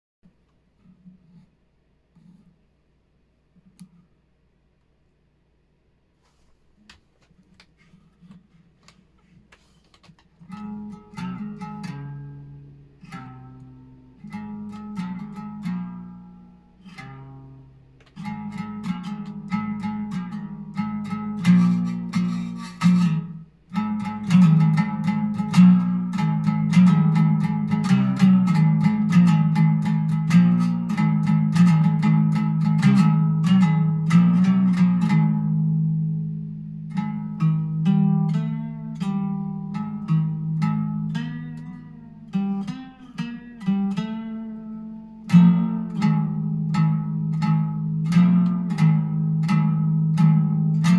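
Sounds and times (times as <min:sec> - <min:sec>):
plucked string notes through amplifier: 0:09.6 - 0:50.9.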